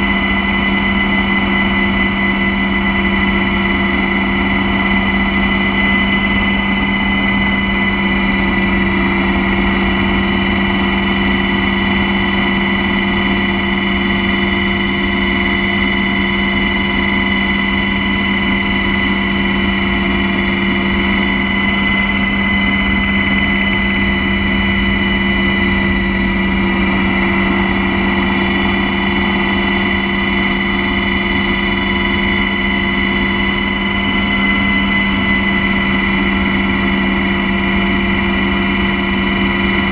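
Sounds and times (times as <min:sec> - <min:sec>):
high-pitched whine: 0:00.0 - 0:39.9
small aircraft engine droning: 0:00.0 - 0:39.9.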